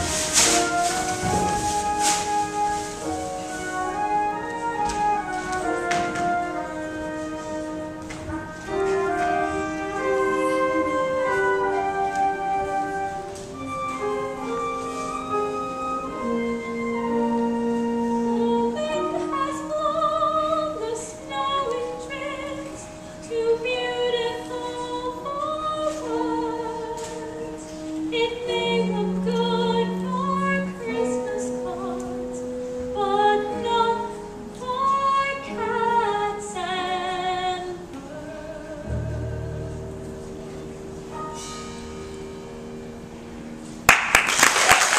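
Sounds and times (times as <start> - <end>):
instrumental accompaniment: 0.0 - 44.9.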